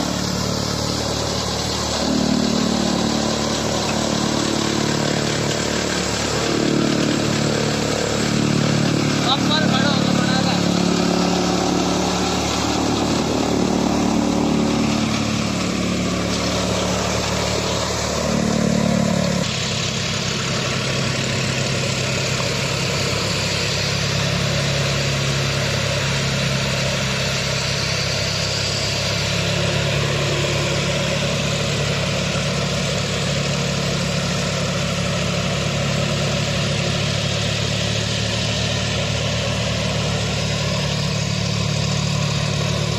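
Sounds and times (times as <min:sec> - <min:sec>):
tractor diesel engine idling: 0:00.0 - 0:42.9.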